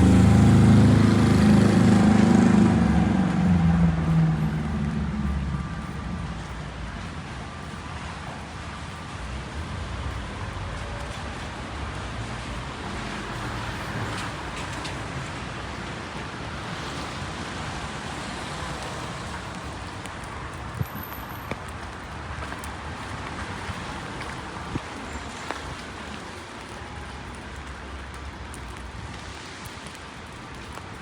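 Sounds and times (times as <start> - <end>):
cars passing on wet road: 0.0 - 31.0
steady rain: 0.0 - 31.0.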